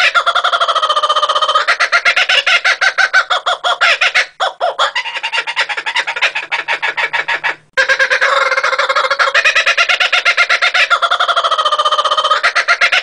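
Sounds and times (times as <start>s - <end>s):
kookaburra laughing call: 0.0s - 13.0s.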